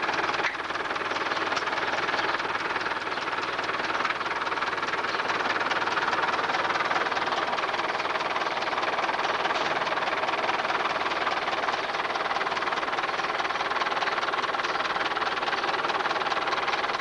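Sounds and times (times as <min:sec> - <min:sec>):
fast mechanical rattle: 0:00.0 - 0:17.0
tractor and farm machinery running: 0:00.0 - 0:17.0.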